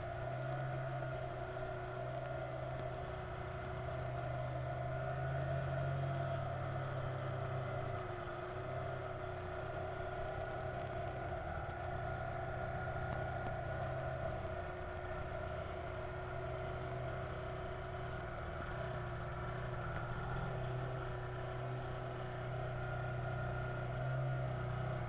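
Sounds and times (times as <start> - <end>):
road and wind noise: 0.0 - 25.0
vehicle engine running steadily: 0.0 - 25.0.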